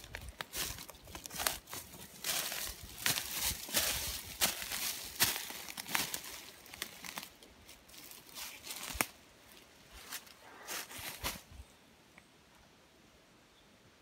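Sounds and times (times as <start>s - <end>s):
footsteps crunching dry leaves: 0.0s - 11.5s.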